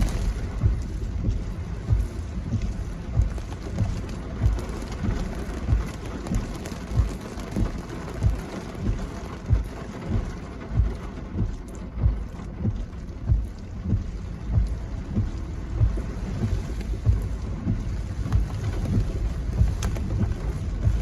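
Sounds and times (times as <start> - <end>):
footsteps thumping: 0.0 - 21.0
rain hissing: 0.0 - 21.0.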